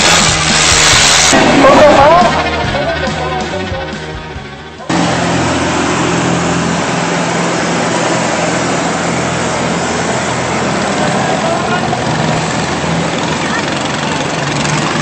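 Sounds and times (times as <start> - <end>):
rushing water wash: 0.0 - 2.4, 4.9 - 15.0
boat engine humming: 0.0 - 15.0.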